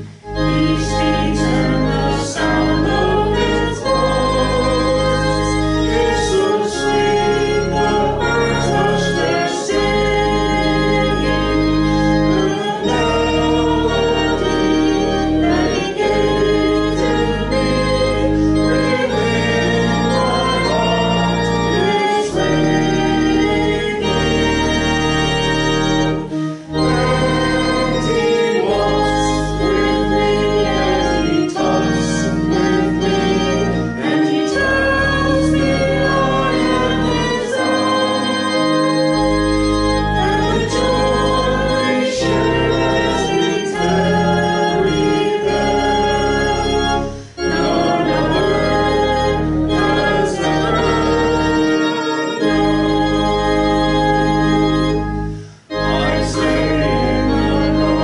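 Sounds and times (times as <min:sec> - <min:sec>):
organ chords: 0:00.0 - 0:58.0
voices singing a hymn: 0:00.0 - 0:58.0.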